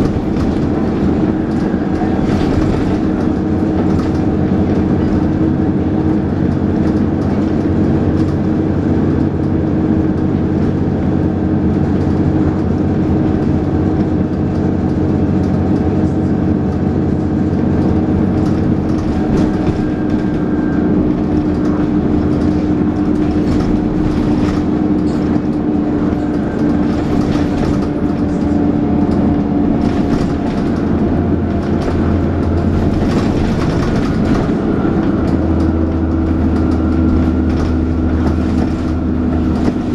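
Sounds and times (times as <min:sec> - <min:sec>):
body rattles: 0:00.0 - 0:08.7, 0:16.5 - 0:39.9
bus diesel engine whining: 0:00.0 - 0:39.9.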